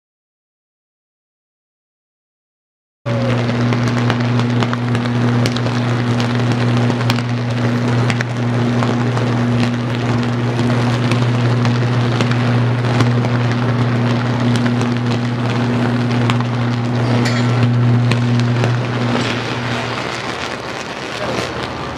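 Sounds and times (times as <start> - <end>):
electric arc buzzing: 3.1 - 21.9
electric arc crackling and popping: 3.1 - 21.9.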